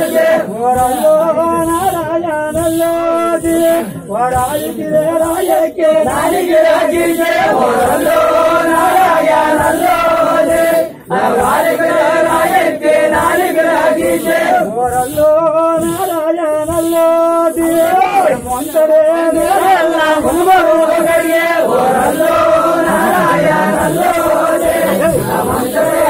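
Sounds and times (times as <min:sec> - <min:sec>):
group singing a folk chant: 0:00.0 - 0:26.0
high rhythmic beat: 0:00.0 - 0:26.0.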